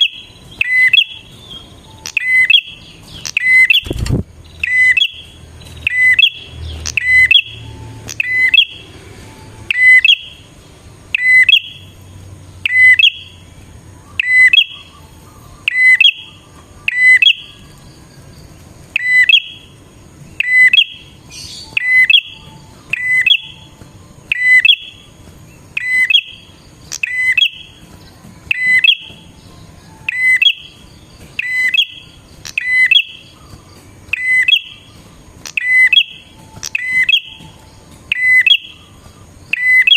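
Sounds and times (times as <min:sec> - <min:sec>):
bird calling sharp notes: 0:00.0 - 0:17.8, 0:18.9 - 0:39.9.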